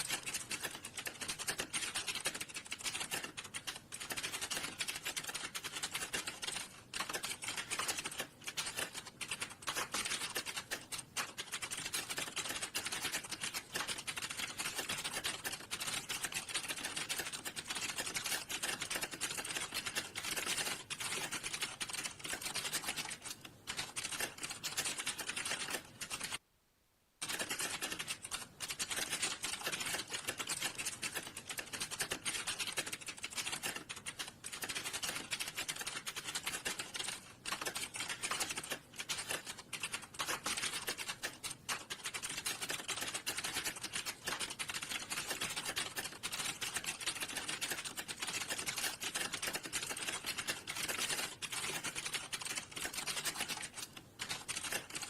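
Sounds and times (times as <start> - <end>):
typing on computer keyboard: 0.0 - 26.4, 27.2 - 55.0.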